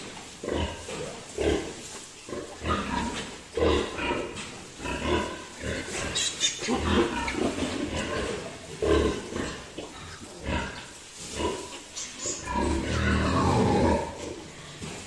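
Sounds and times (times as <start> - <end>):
pig grunting: 0.0 - 15.0.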